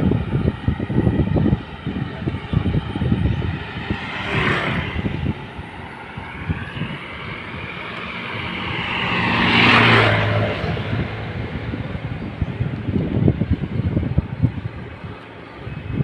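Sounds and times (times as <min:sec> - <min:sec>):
wind buffeting microphone: 0:00.0 - 0:16.0
vehicle passing close by: 0:01.0 - 0:15.1.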